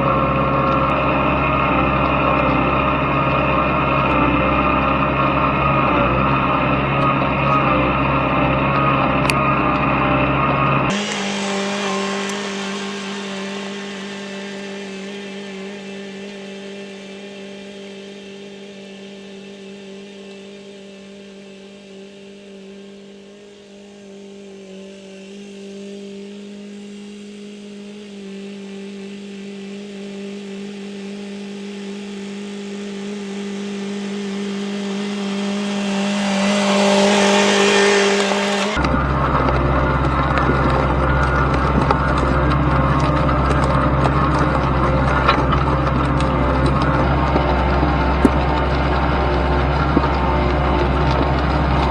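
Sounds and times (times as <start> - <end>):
tractor engine running: 0.0 - 28.1, 33.0 - 51.9.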